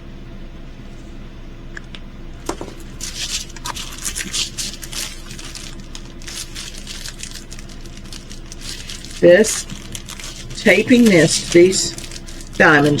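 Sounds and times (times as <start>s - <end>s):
low steady hum: 0.0s - 13.0s
plastic packaging crinkling: 2.4s - 13.0s.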